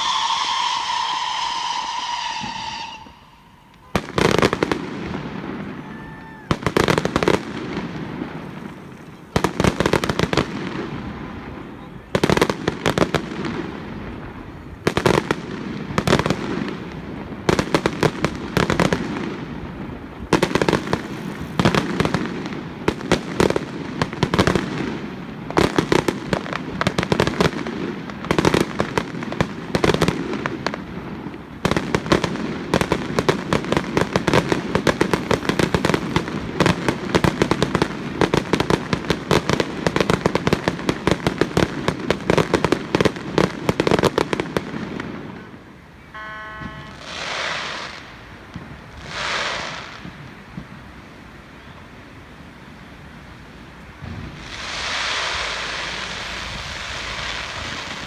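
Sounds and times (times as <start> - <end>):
fireworks bursting: 0.0 - 51.4, 53.5 - 58.0
fireworks crackle: 0.0 - 58.0.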